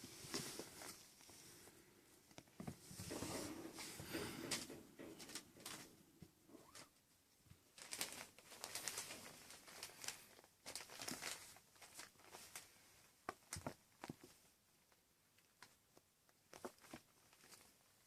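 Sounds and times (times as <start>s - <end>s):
kittens playing rustling: 0.0s - 18.0s.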